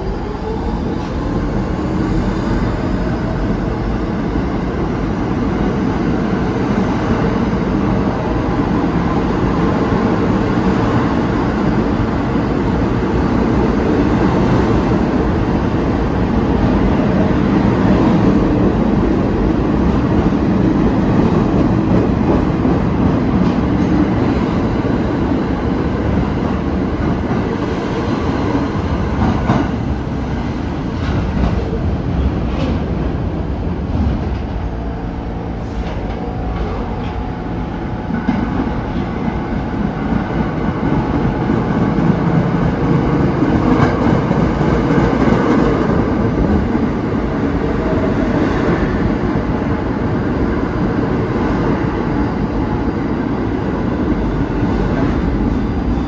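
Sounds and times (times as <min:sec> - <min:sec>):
subway train motors whining: 0:00.0 - 0:56.0
train cars rumbling by: 0:00.0 - 0:56.0.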